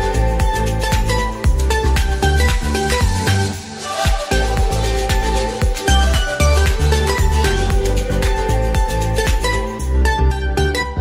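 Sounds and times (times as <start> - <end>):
upbeat electronic music: 0.0 - 11.0.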